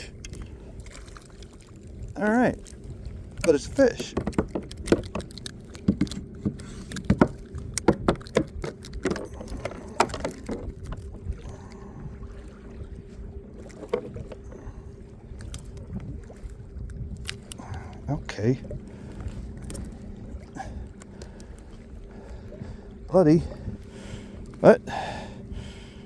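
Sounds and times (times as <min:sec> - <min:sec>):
knocks and rattles on a kayak: 0:02.1 - 0:25.7.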